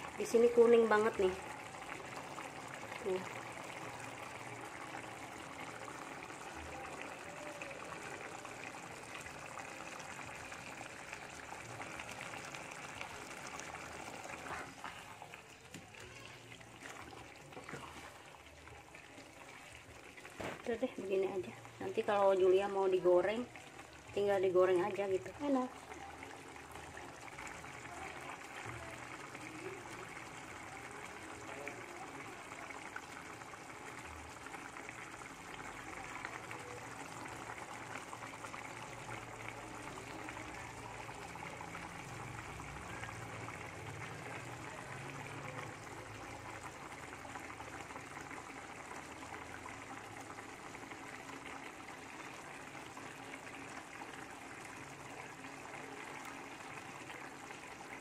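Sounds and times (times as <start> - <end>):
broth bubbling in a pan: 0.0 - 58.0.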